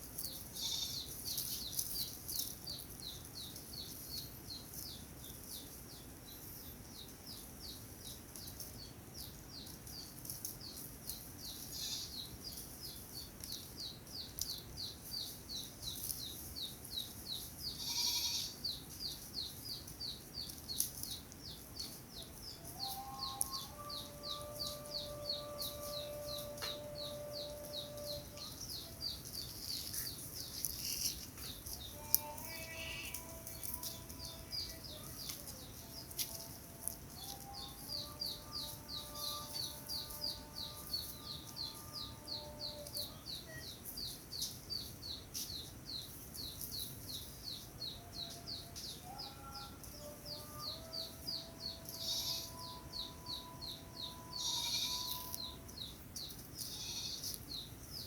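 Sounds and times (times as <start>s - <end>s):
bird chirping: 0.2s - 58.0s.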